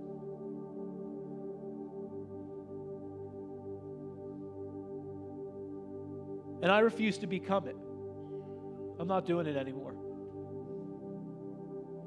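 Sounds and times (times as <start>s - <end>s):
soft ambient keyboard pad: 0.0s - 12.0s.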